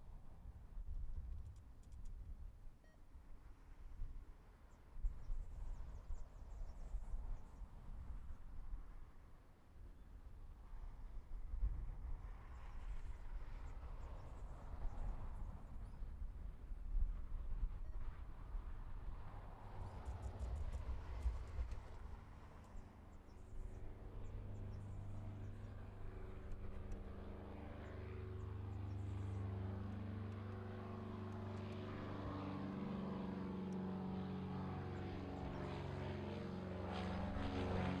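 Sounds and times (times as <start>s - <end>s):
propeller plane flying overhead: 0.0s - 38.0s.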